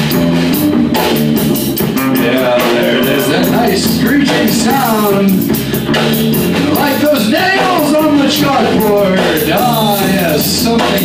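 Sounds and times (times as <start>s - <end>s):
drum kit with cymbals: 0.0s - 11.0s
electric bass: 0.0s - 11.0s
sliding melodic line: 1.8s - 11.0s.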